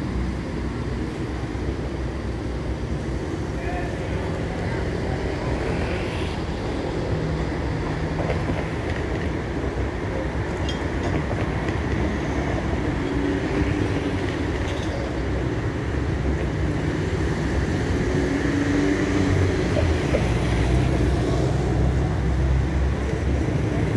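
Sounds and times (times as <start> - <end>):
cars passing: 0.0 - 23.9
tram running on tracks: 0.0 - 23.9.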